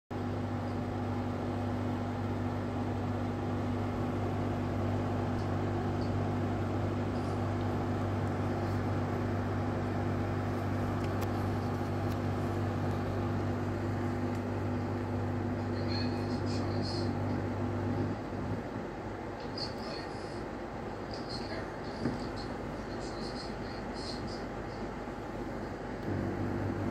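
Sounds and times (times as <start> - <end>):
dehumidifier running hum: 0.1 - 26.9
panel vibrating low buzz: 0.2 - 19.4, 24.4 - 26.9.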